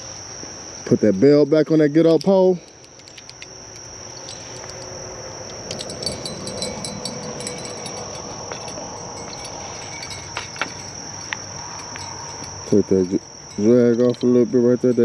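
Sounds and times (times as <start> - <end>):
crickets and night insects chirping: 0.0 - 15.0
small tinkling sounds: 1.8 - 15.0.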